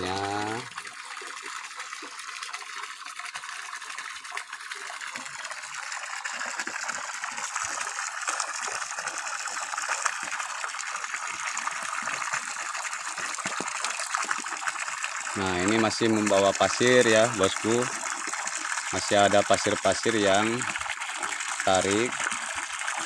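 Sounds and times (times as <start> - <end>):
water gushing from pipe onto mud: 0.0 - 23.0.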